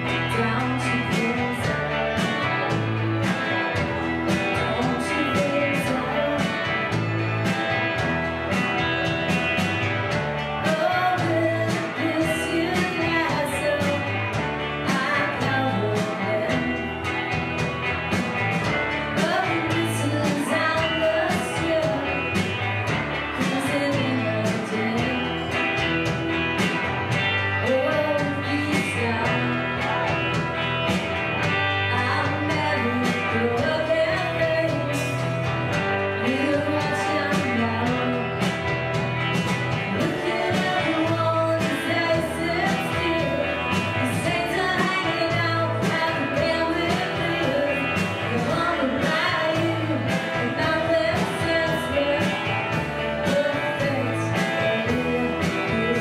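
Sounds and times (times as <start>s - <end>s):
person singing: 0.0s - 9.2s, 10.4s - 18.2s, 19.1s - 26.0s, 27.2s - 30.5s, 31.5s - 38.8s, 39.5s - 56.0s
drums: 0.0s - 56.0s
electric guitars: 0.0s - 56.0s.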